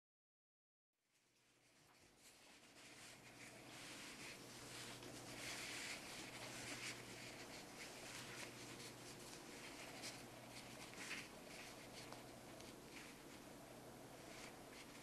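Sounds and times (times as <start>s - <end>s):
low room hiss: 1.0s - 15.0s
hands rustling yarn toy: 1.1s - 15.0s.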